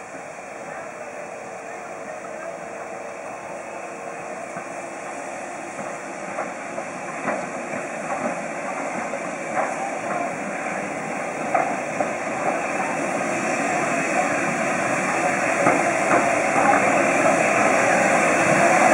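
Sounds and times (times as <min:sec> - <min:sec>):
steam locomotive hissing: 0:00.0 - 0:18.9
train running noise: 0:00.0 - 0:18.9.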